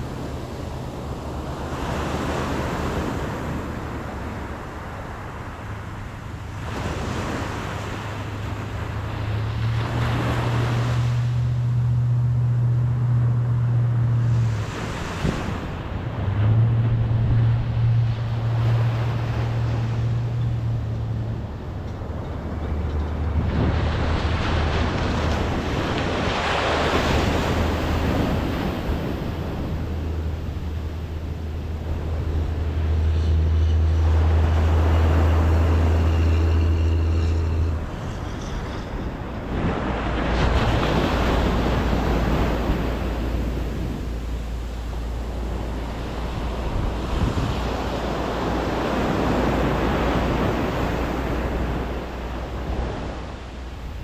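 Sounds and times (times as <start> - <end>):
waves breaking on beach: 0.0 - 54.0
wind rumble on microphone: 0.0 - 54.0.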